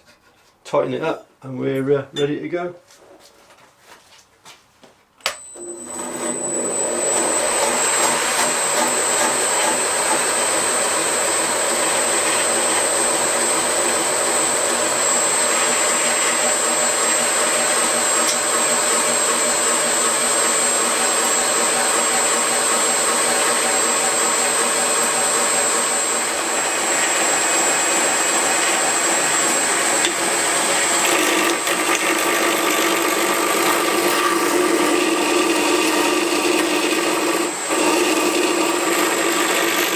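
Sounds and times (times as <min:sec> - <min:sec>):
belt grinder grinding: 0:05.6 - 0:39.9.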